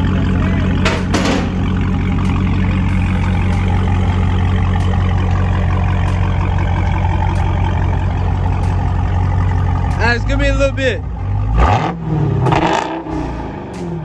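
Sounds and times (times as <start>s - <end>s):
car engine deep exhaust drone: 0.0s - 14.0s.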